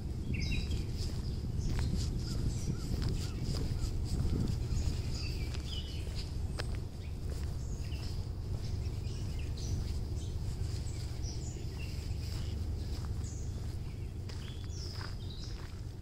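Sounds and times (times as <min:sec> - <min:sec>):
birds chirping: 0:00.0 - 0:16.0
footsteps on gravel: 0:00.0 - 0:16.0
low background rumble: 0:00.0 - 0:16.0.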